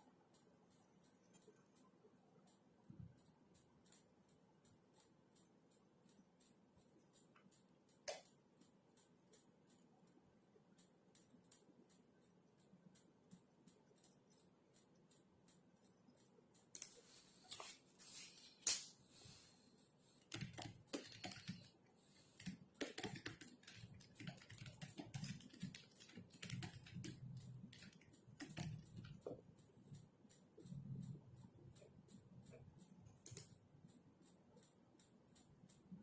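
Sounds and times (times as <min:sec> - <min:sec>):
computer keyboard typing: 0:00.0 - 0:17.7, 0:20.0 - 0:36.0.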